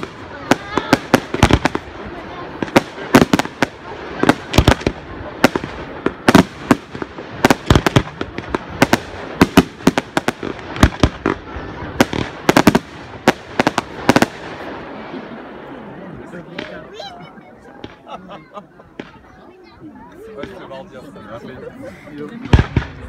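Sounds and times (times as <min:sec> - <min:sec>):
fireworks bursts and bangs: 0:00.0 - 0:21.0, 0:22.3 - 0:23.0.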